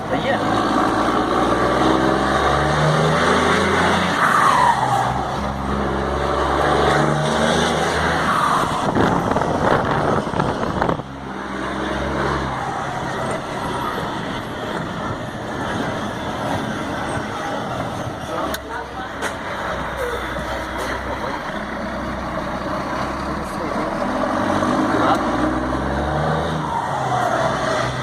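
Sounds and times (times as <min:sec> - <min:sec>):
truck diesel engine revving: 0:00.0 - 0:28.0.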